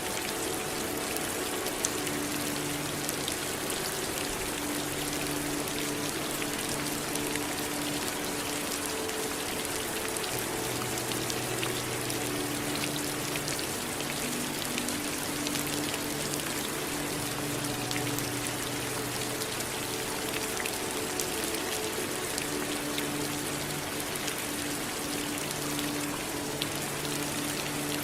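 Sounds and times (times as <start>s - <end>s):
rain drops: 0.0s - 28.0s.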